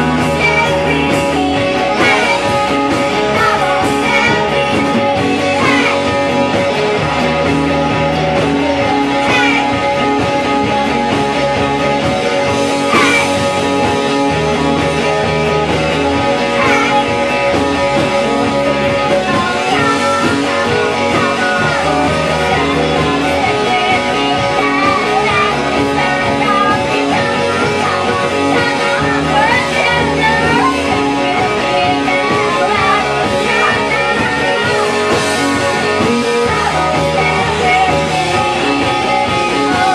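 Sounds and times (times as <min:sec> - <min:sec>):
electric guitar: 0:00.0 - 0:39.9
repeating bass line: 0:00.0 - 0:39.9
rock band playing: 0:00.0 - 0:39.9.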